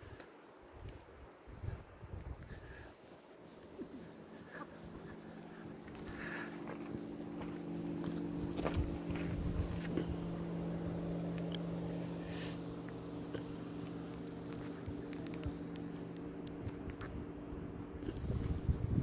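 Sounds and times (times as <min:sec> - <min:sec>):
car engine idling: 0:03.5 - 0:19.0.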